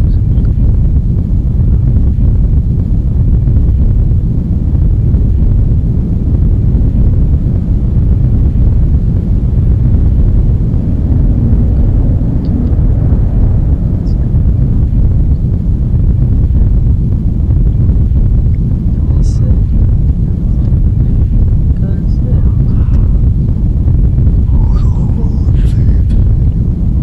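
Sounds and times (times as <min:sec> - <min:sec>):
loud low rumble: 0:00.0 - 0:27.0.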